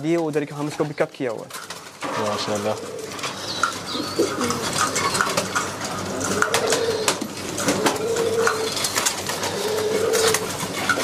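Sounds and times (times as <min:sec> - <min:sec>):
pigeons cooing: 0:01.9 - 0:11.0.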